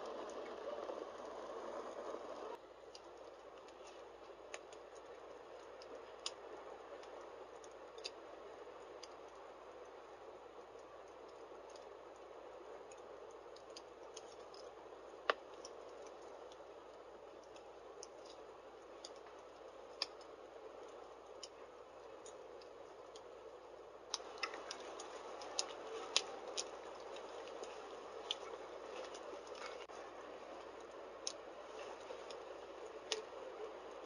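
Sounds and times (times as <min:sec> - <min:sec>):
fire hissing: 0:00.0 - 0:34.0
logs crackling and popping: 0:00.0 - 0:34.0.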